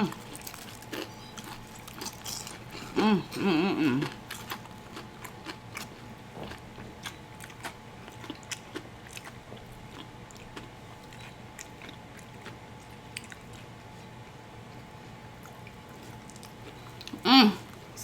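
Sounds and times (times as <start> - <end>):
person chewing fried chicken: 0.0 - 18.0.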